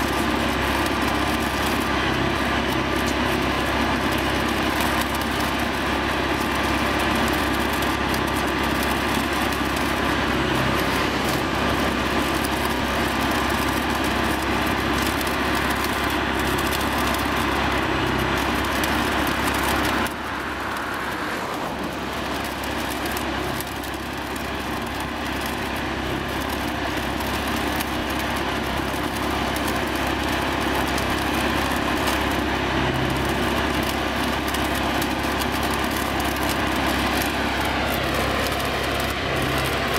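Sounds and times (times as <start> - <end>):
machine engine running: 0.0 - 39.9
welding crackling: 0.0 - 39.9.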